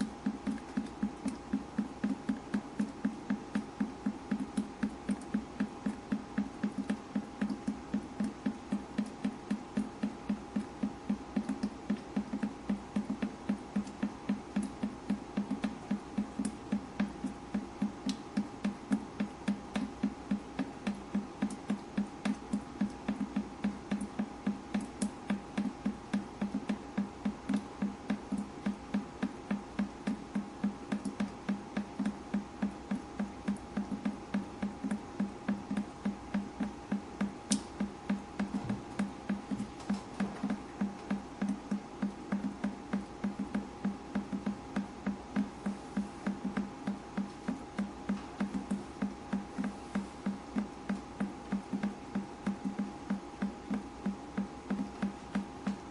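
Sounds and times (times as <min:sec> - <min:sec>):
faint steady hum: 0:00.0 - 0:55.9
water dripping: 0:00.0 - 0:55.9.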